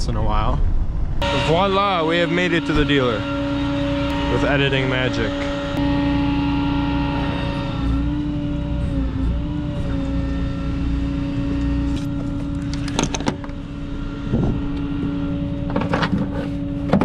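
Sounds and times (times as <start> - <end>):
tow truck engine humming: 1.2 - 17.0.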